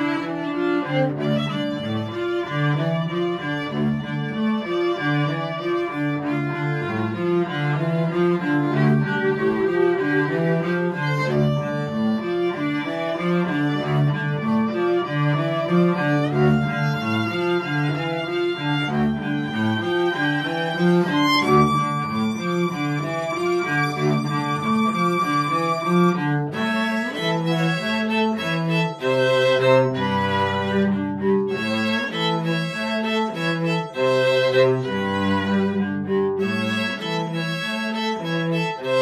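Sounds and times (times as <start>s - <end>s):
bowed cello low notes: 0.0s - 39.0s
bowed violin held notes: 0.0s - 39.0s.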